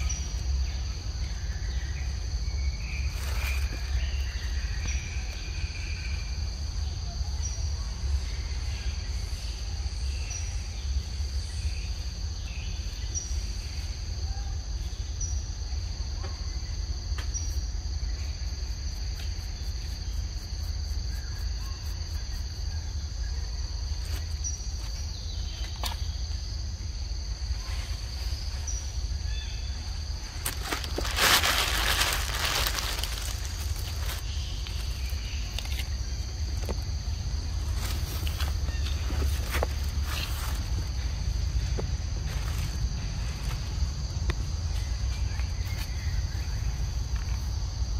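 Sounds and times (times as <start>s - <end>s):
insect chirps: 0.0s - 47.9s
insects buzzing: 0.0s - 47.9s.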